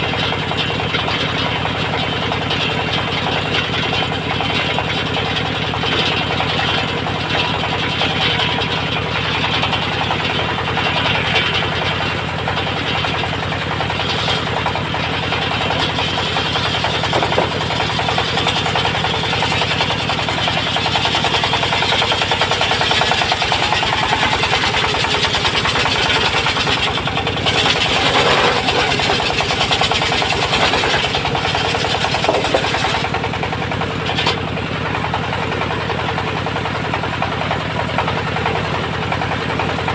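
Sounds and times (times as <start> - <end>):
rough mechanical noise: 0.0 - 39.9
sawmill engine pulsing: 0.0 - 39.9.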